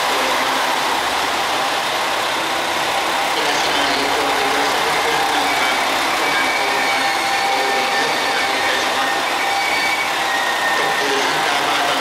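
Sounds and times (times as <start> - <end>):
diesel train engines running: 0.0 - 12.0.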